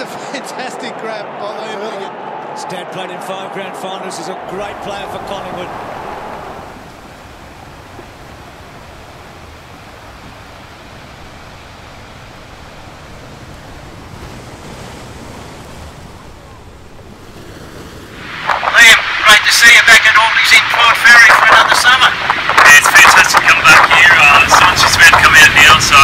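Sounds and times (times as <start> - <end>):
ocean surf breaking on beach: 4.4 - 26.0.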